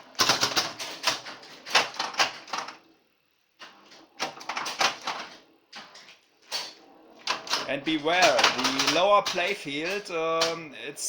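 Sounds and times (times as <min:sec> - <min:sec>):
pinball machine clacking: 0:00.0 - 0:02.8, 0:03.7 - 0:10.7.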